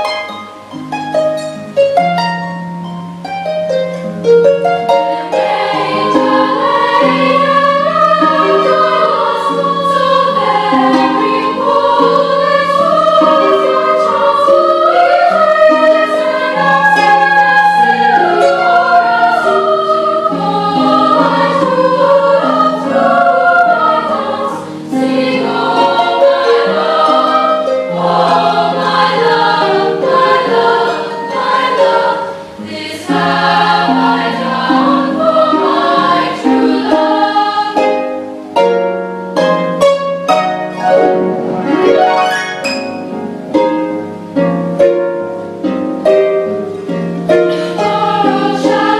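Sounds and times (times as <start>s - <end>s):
harp: 0.0s - 48.9s
girls choir singing: 4.4s - 48.9s.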